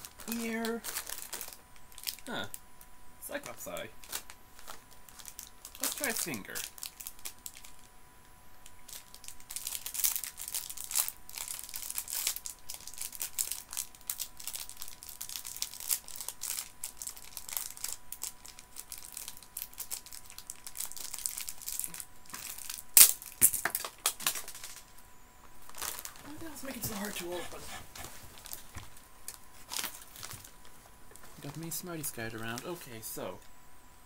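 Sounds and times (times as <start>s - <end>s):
plastic packet crinkling: 0.0s - 2.6s, 3.4s - 7.9s, 8.6s - 25.0s, 25.6s - 33.0s.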